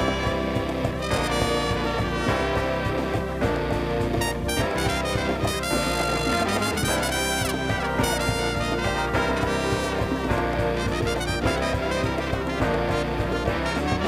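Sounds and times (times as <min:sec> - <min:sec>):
bass: 0:00.0 - 0:14.0
brass horn line: 0:00.0 - 0:14.0
drum beat: 0:00.0 - 0:14.0.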